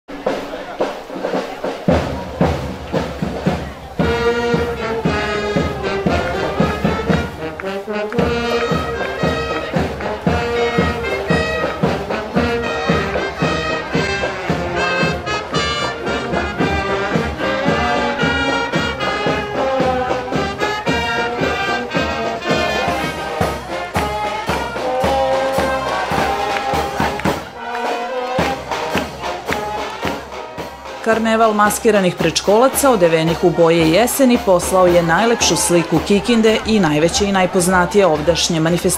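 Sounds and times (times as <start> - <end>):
brass band music: 0.1 - 38.9.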